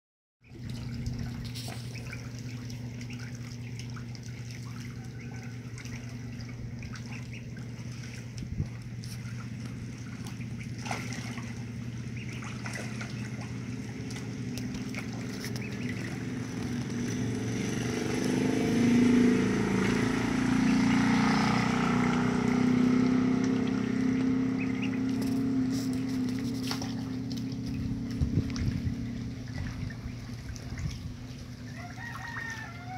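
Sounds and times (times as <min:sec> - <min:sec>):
motor humming: 0:00.4 - 0:32.7
faint water sounds: 0:00.4 - 0:32.9.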